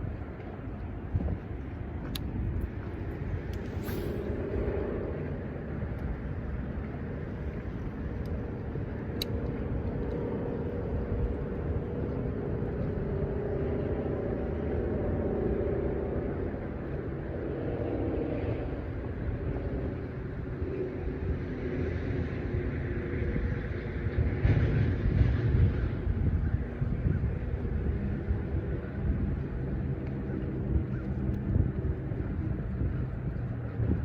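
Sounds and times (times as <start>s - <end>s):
distant motor rumble: 0.0s - 34.0s.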